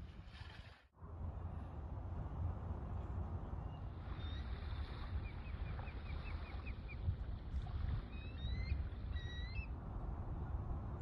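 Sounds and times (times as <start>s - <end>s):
wind buffeting microphone: 1.0s - 11.0s.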